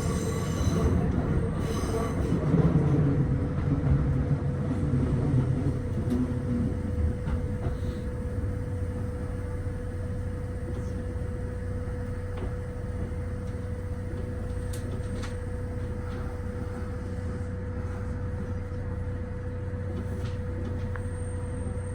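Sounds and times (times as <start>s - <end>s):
train interior hum: 0.0s - 21.9s.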